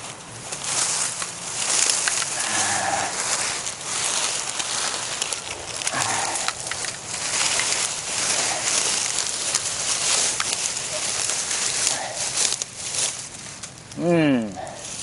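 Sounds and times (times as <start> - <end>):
dry reeds rustling and crackling: 0.0 - 15.0
stalks snapping: 0.5 - 15.0.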